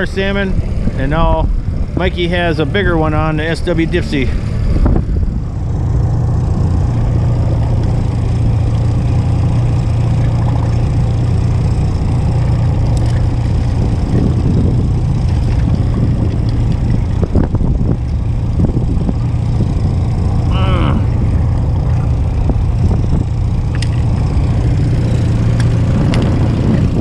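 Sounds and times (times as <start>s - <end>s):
outboard motor humming: 0.0s - 27.0s.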